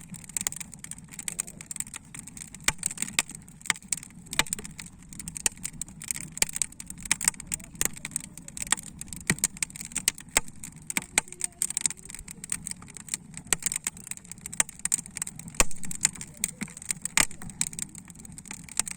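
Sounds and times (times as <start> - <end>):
low steady fire rumble: 0.0 - 18.9
wood fire crackling and popping: 0.0 - 18.9.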